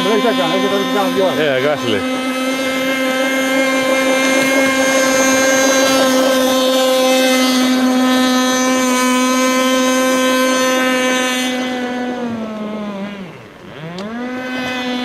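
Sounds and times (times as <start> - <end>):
model boat engine whine: 0.0 - 15.0.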